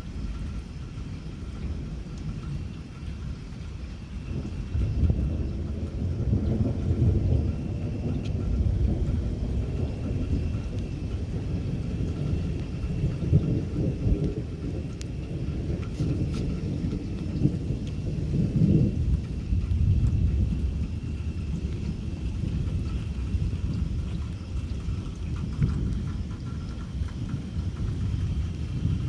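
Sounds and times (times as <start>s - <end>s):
rain falling: 0.0s - 29.0s
raindrop ticks: 0.0s - 29.0s
thunder rumbling: 0.0s - 29.0s.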